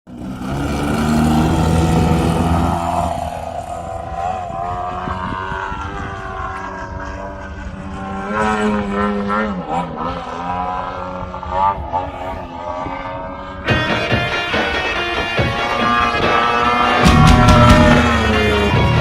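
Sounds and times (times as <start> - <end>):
model plane engine in flight: 0.1 - 17.1.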